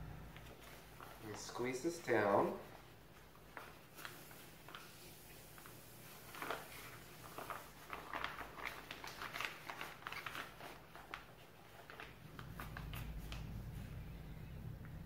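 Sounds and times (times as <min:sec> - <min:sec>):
piping bag crinkling: 0:00.1 - 0:14.0.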